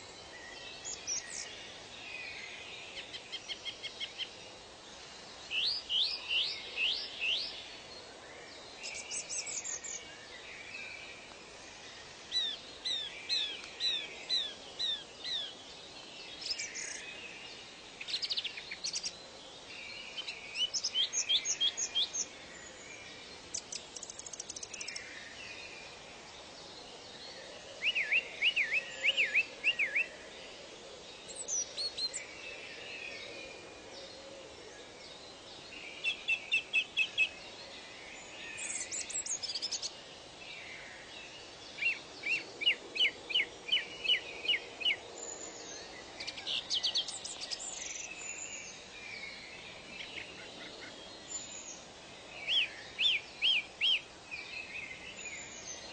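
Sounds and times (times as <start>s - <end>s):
songbirds singing: 0.0s - 55.9s
steady background hiss: 0.0s - 55.9s.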